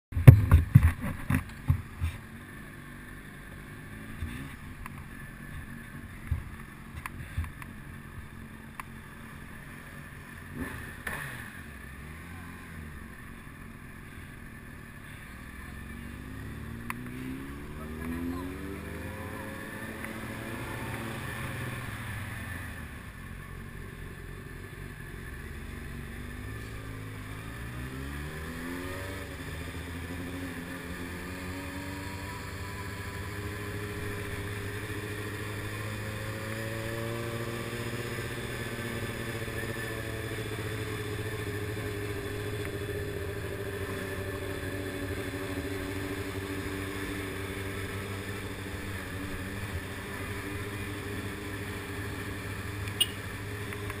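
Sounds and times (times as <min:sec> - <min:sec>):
motorcycle engine running: 0:00.1 - 0:54.0.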